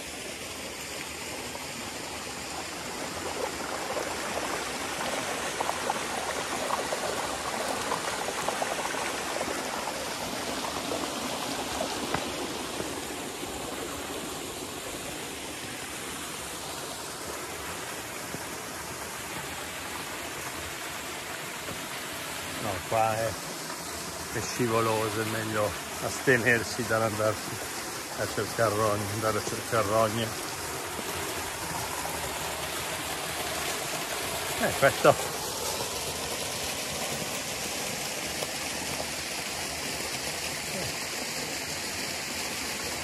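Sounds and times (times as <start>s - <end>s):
mountain stream rushing: 0.0s - 43.0s.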